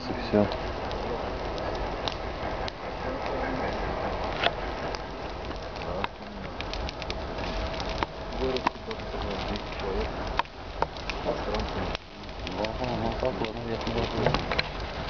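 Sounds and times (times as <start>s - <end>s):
grass fire crackling: 0.0s - 15.0s.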